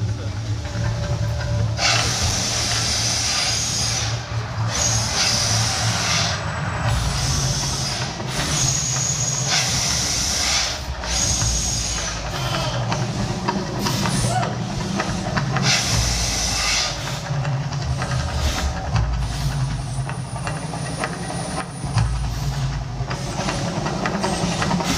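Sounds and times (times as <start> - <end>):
gas flame jets hissing: 0.0 - 24.9
steady low rumble: 0.0 - 24.9.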